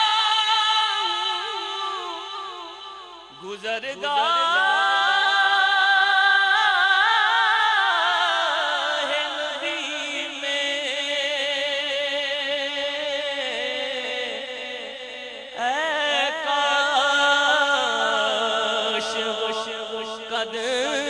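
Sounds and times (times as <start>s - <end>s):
man singing into microphone: 0.0s - 21.0s.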